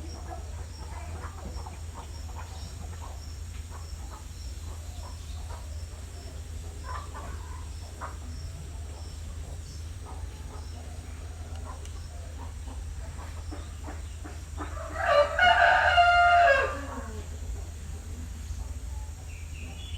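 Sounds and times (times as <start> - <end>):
birds calling: 0.0 - 19.9
chickens calling: 0.0 - 19.9
constant low hum: 0.0 - 19.9
cricket chirping: 0.0 - 19.9.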